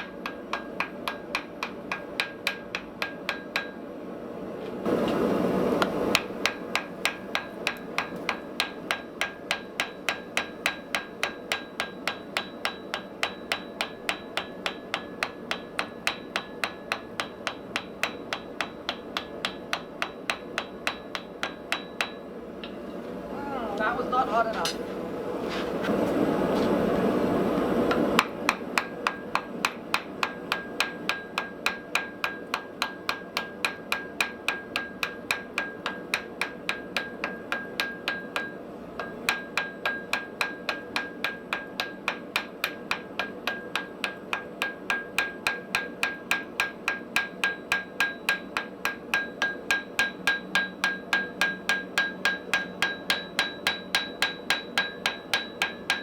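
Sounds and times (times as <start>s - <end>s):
hammer striking metal on anvil: 0.0s - 3.8s, 5.8s - 22.9s, 27.9s - 56.0s.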